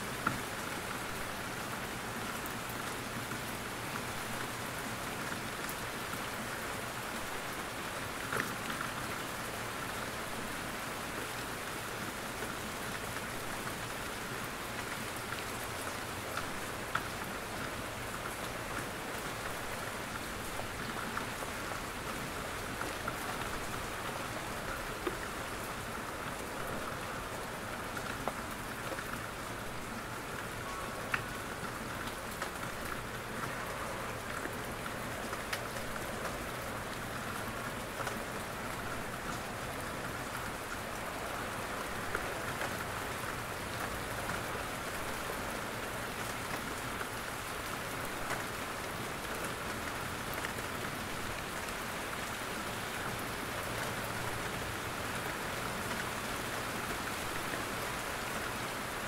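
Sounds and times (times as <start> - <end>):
rain hissing in a forest: 0.0 - 59.0.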